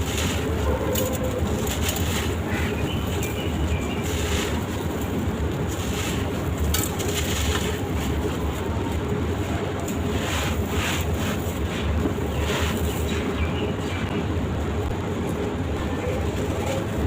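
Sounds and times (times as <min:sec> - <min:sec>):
sand-cement crunching: 0:00.0 - 0:13.7.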